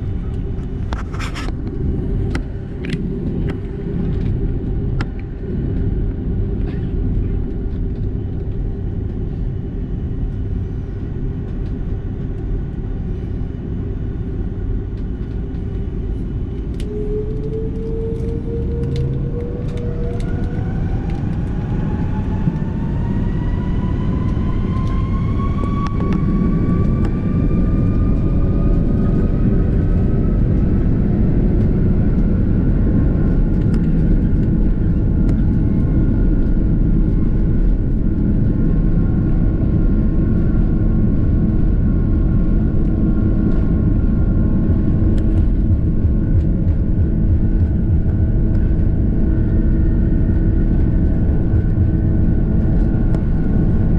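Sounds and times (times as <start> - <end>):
jet engine whine: 0.0 - 53.9
loud takeoff rumble: 0.0 - 53.9.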